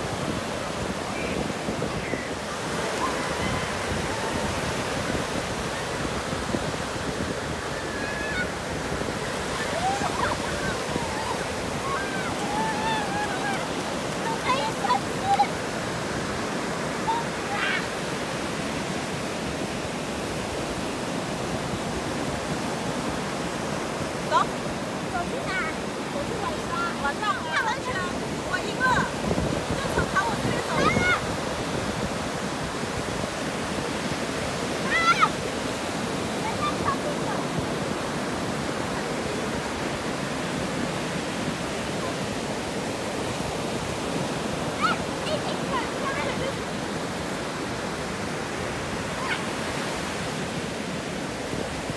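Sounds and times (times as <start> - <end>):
surf waves on a beach: 0.0 - 51.9.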